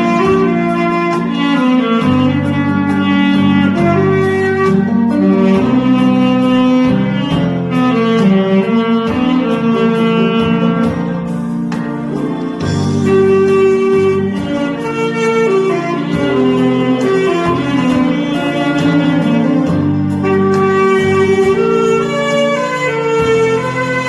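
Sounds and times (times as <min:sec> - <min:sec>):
bass: 0:00.0 - 0:24.0
saxophone slow melody: 0:00.0 - 0:24.0
steady drum beat: 0:00.0 - 0:24.0.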